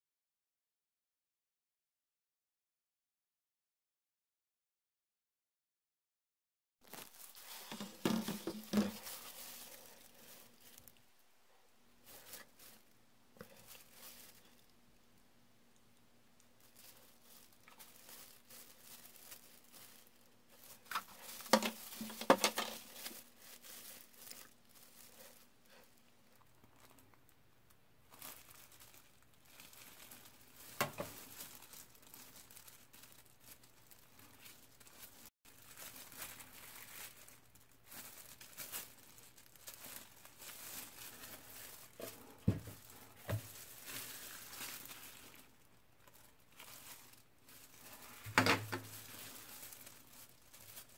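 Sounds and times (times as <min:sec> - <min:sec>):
plastic crinkling: 0:06.8 - 0:11.2, 0:11.9 - 0:15.2, 0:15.8 - 0:50.9.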